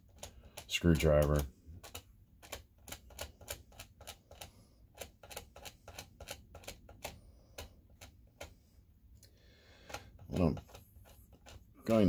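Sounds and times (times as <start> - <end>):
screwdriver scraping cable insulation: 0.0 - 8.6, 9.8 - 12.0.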